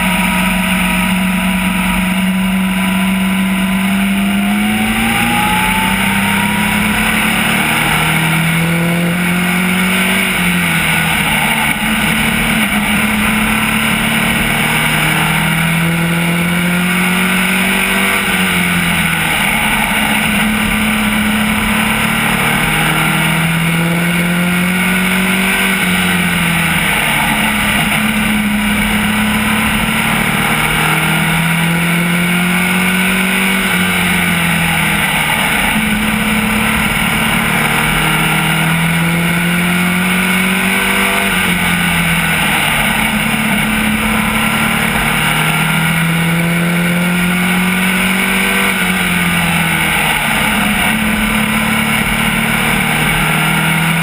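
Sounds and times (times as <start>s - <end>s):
race car engine: 0.0s - 54.0s
road and wind noise: 0.0s - 54.0s.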